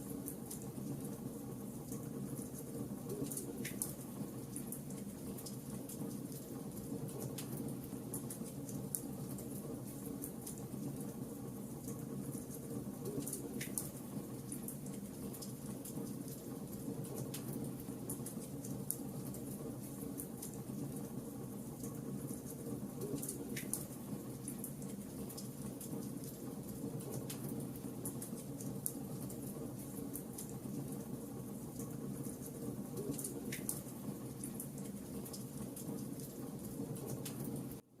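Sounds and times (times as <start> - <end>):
wood fire crackles and pops: 1.9 - 11.2, 11.8 - 21.0, 21.8 - 31.1, 31.7 - 37.8.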